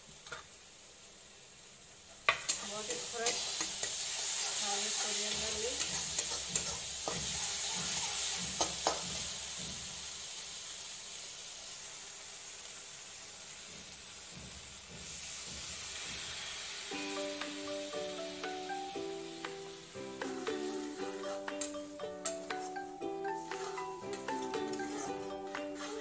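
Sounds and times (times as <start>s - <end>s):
spices sizzling in a pan: 0.0s - 26.0s.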